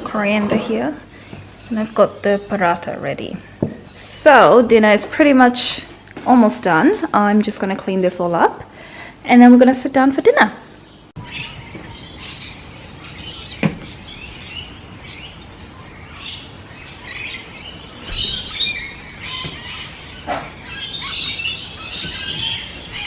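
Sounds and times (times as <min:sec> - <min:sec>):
birds chirping and trilling: 0:00.0 - 0:06.8, 0:10.2 - 0:23.0.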